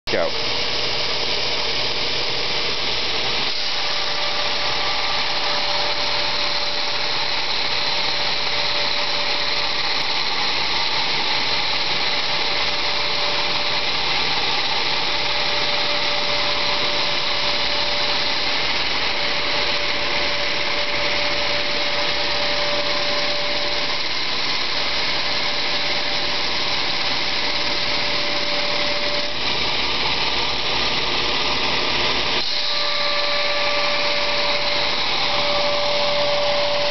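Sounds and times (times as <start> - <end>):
belt grinder grinding steel: 0.1 - 36.9.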